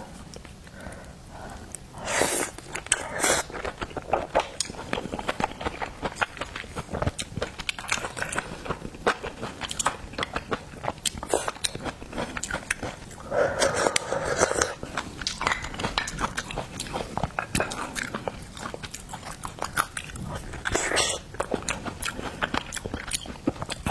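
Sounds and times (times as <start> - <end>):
wet chewing: 0.2 - 23.9.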